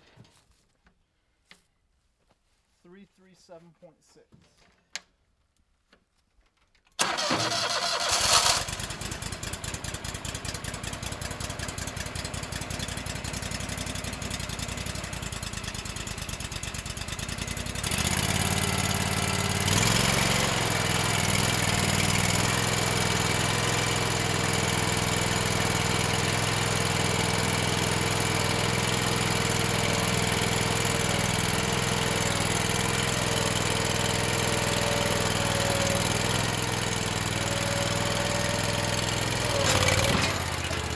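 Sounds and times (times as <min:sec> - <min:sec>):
stump grinder engine idling: 0:07.0 - 0:40.9.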